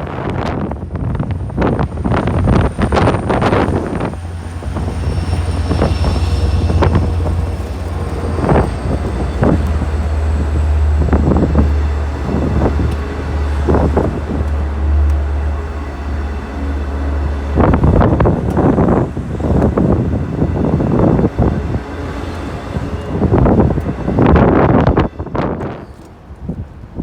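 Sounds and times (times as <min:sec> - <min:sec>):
heavy low rumble: 0:00.0 - 0:26.4
wind buffeting microphone: 0:00.0 - 0:27.0.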